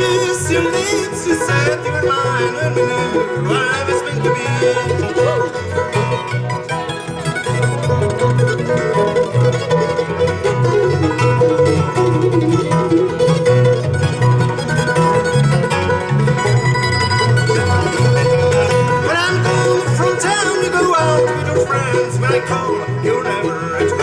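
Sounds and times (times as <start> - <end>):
plucked string lead: 0.0 - 24.0
repeating bass line: 0.0 - 24.0.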